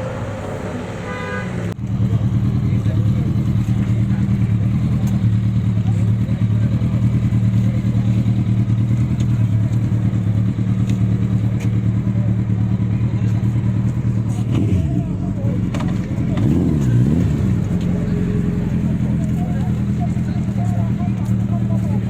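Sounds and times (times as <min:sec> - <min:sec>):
large vehicle engine idling: 0:00.0 - 0:22.0.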